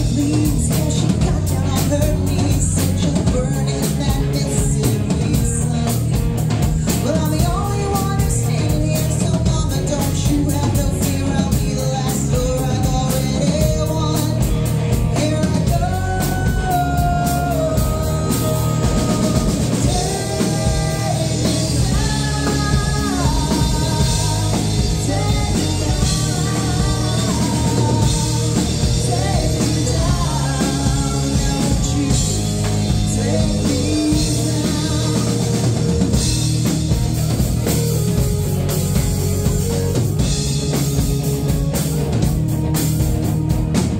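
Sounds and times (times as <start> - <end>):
person singing: 0.0 - 36.5
live rock band: 0.0 - 43.9.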